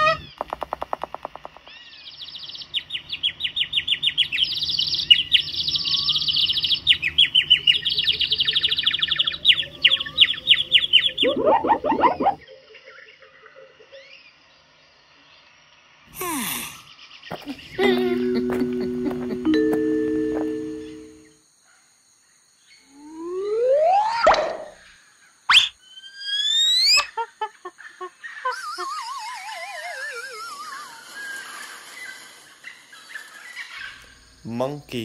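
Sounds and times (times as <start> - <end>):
birds chirping and trilling: 0.0 - 15.6, 16.7 - 21.3, 24.7 - 35.0.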